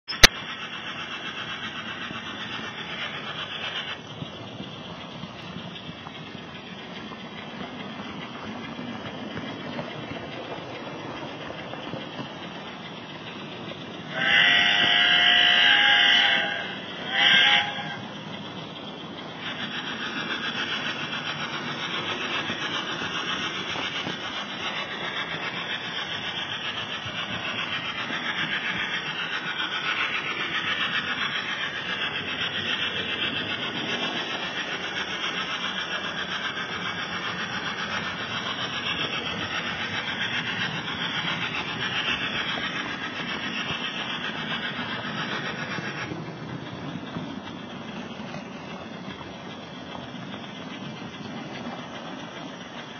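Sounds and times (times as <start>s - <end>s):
model train wheels whirring: 0.0s - 52.9s.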